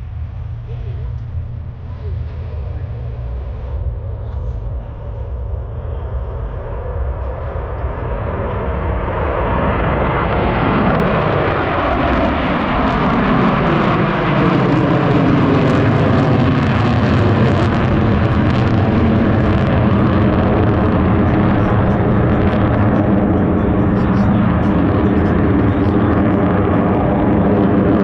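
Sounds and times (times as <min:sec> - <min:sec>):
jet engines flying past: 0:00.0 - 0:28.0.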